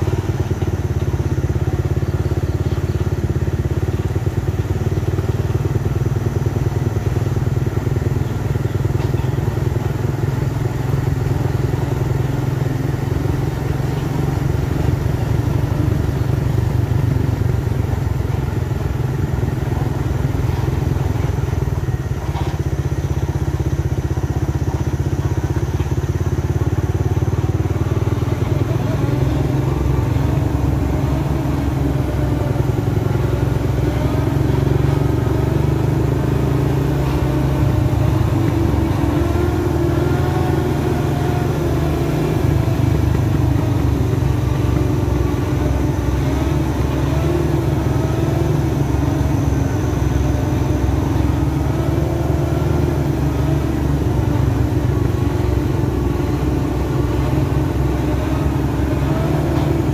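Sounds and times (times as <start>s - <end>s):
diesel truck engines rumbling: 0.0s - 59.9s.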